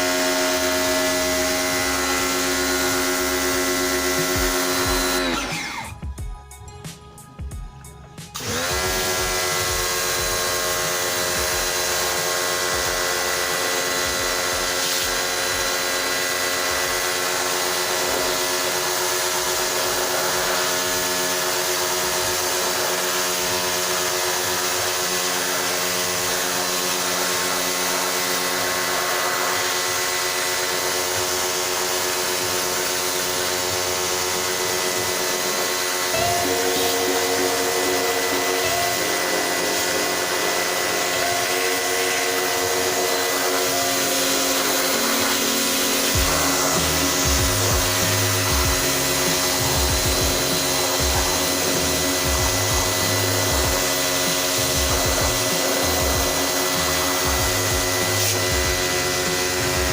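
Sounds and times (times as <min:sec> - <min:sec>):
small electric motor humming: 0:00.0 - 0:06.0, 0:08.3 - 0:59.9.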